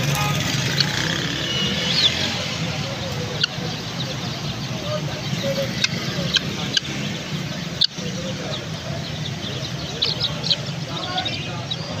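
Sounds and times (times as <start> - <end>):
low hum of street traffic: 0.0 - 12.0
high bird chirps: 0.1 - 12.0.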